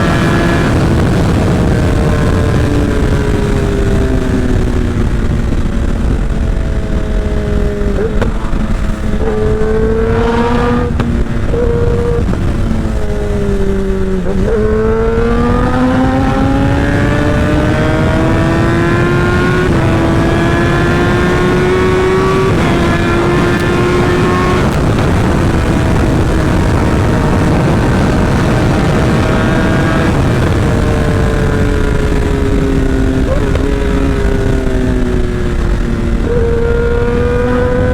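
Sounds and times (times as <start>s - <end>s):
motorcycle engine at high speed: 0.0s - 37.9s
wind noise on microphone: 0.0s - 37.9s.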